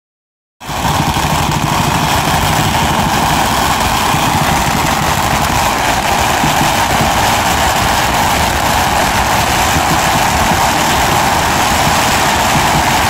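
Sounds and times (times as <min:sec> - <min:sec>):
firecrackers crackling: 0:00.6 - 0:13.0.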